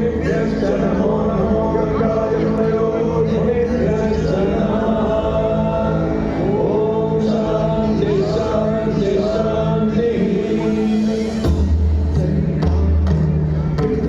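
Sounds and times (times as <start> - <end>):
choir-like chanting voices: 0.0 - 13.0.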